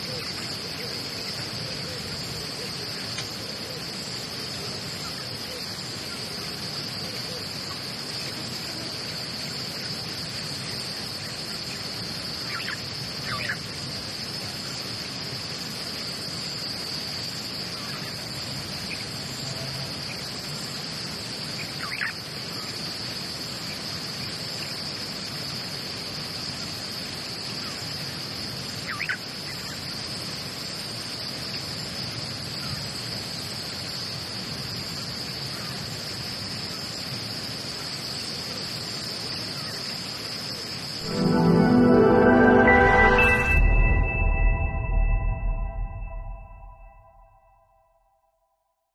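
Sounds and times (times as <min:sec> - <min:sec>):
high-pitched insect chorus: 0:00.0 - 0:46.2.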